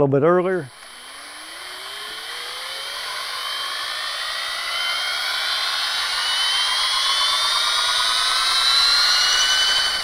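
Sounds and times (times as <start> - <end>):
electric drill whine: 0.7 - 10.0.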